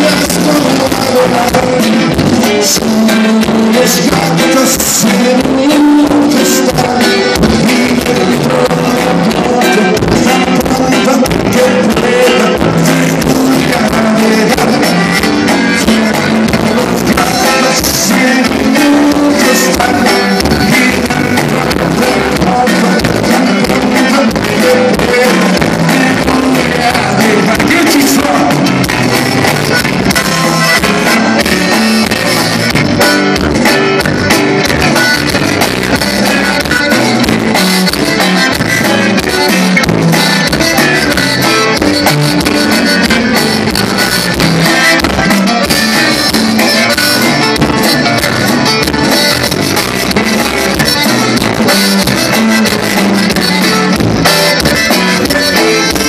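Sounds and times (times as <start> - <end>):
button accordion: 0.0 - 56.0
drum kit dance beat: 0.0 - 56.0
electric bass: 0.0 - 56.0
twelve-string guitar strumming: 0.0 - 56.0.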